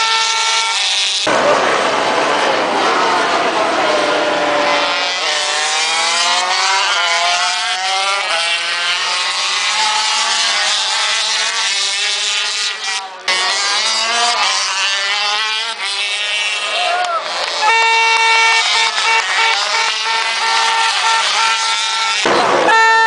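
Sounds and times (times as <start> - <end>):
racing motorcycle engines: 0.0 - 23.0.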